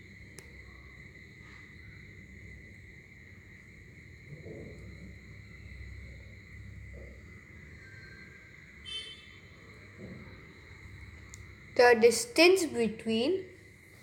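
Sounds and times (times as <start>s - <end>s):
high-pitched whine: 0.0s - 11.8s.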